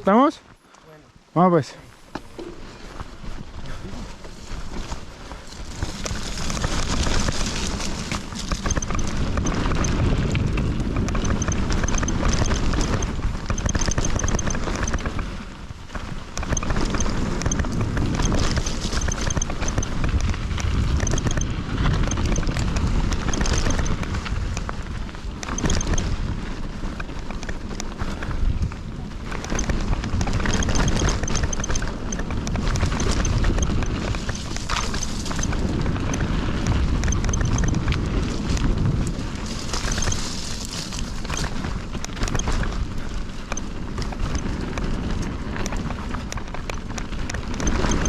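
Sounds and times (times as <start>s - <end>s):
bike rattling over ground: 2.0s - 48.0s
wind rushing over microphone: 2.4s - 48.0s
bike freehub ticking: 4.3s - 48.0s.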